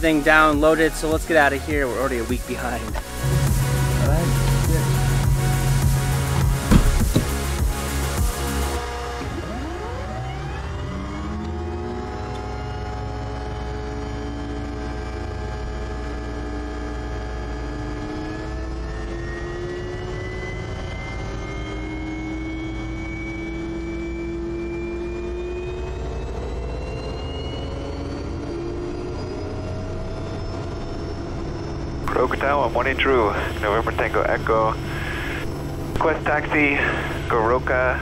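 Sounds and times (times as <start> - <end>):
steady low hum: 0.0 - 9.4, 11.9 - 38.0
turboprop engine whine rising: 0.0 - 38.0.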